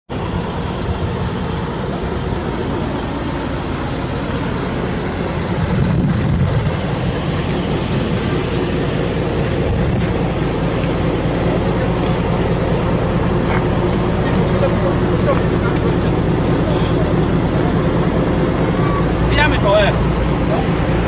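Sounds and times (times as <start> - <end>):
diesel engine idling: 0.1 - 21.0.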